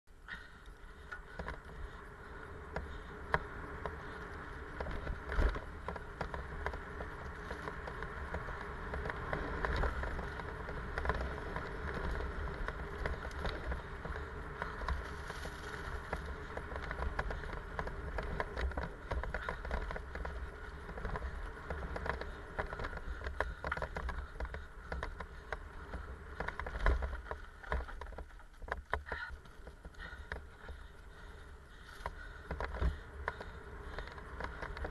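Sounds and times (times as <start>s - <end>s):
bike rattling over bumps: 0.1s - 34.9s
bike tyres on dirt and leaves: 0.1s - 34.9s
wind rumble on microphone: 0.8s - 34.9s.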